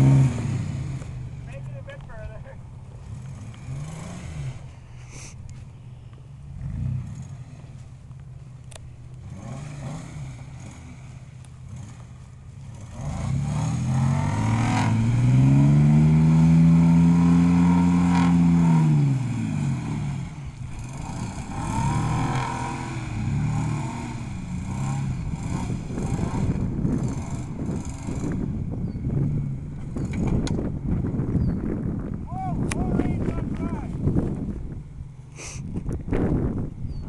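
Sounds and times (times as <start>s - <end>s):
vehicle engine revving: 0.0s - 2.0s, 2.8s - 34.9s.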